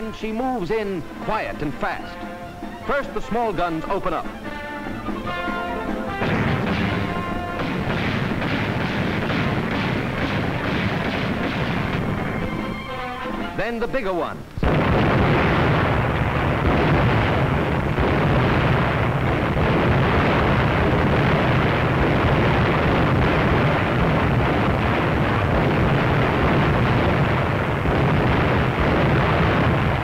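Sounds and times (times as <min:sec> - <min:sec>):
naval guns firing rapidly: 0:00.6 - 0:30.0.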